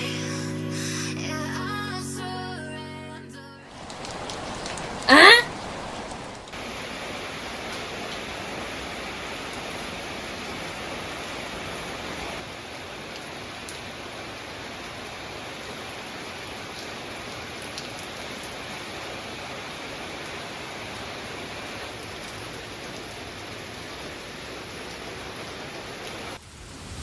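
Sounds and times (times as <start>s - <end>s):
steady rain hiss: 3.7s - 27.0s.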